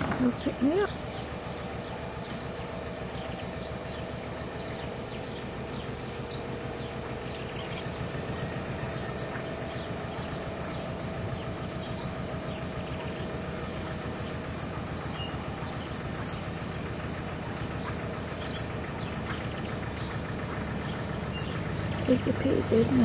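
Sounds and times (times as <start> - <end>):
birds chirping: 0.0 - 23.0
boat engine chugging: 0.0 - 23.0.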